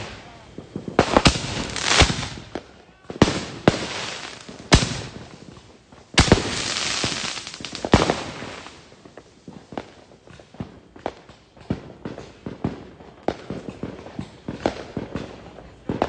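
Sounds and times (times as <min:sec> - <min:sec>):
fireworks banging: 0:00.0 - 0:16.0
fireworks crackling: 0:00.0 - 0:16.0.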